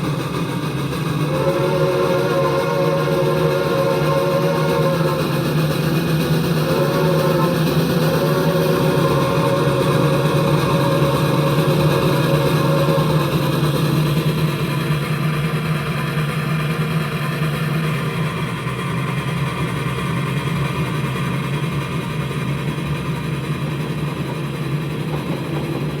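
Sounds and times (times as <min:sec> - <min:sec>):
passenger train rumbling past: 0:00.0 - 0:26.0.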